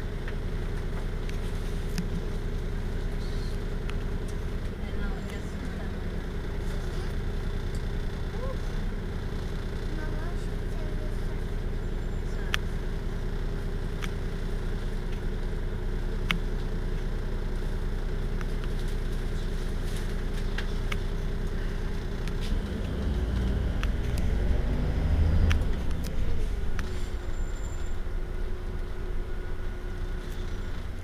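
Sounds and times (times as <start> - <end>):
bus engine idling: 0.0 - 31.0
deep engine rumble rising in pitch: 0.0 - 31.0.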